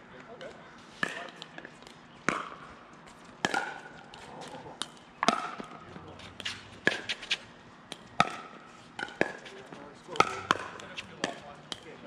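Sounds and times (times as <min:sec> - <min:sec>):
paddles striking a plastic ball: 0:00.4 - 0:02.6, 0:03.4 - 0:07.2, 0:07.9 - 0:12.0.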